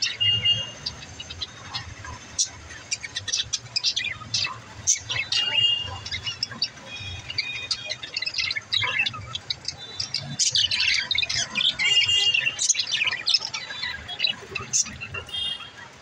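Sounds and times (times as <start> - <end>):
budgerigars chirping and squawking: 0.0 - 16.0.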